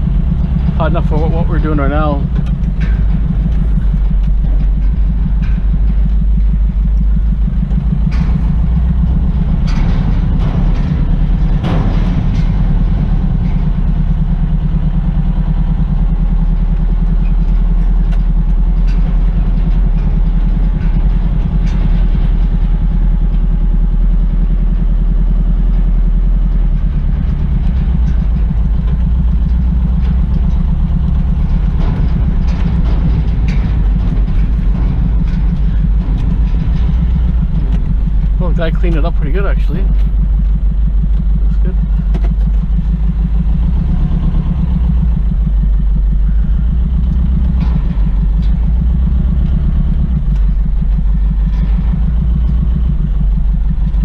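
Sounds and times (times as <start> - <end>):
short knocks and rattles: 0.0 - 54.0
truck engine running: 0.0 - 54.0.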